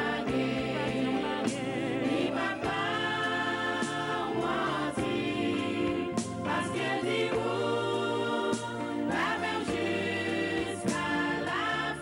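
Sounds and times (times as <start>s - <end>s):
backing choir: 0.0s - 12.0s
band with steady beat: 0.0s - 12.0s.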